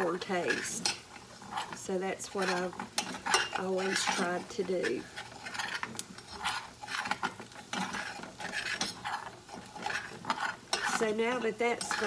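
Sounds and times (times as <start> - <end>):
spoon scraping a saucepan: 0.0 - 12.0.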